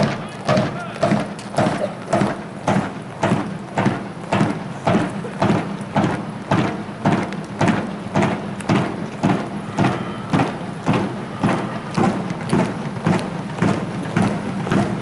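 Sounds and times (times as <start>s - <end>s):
soldiers marching in step: 0.0s - 15.0s.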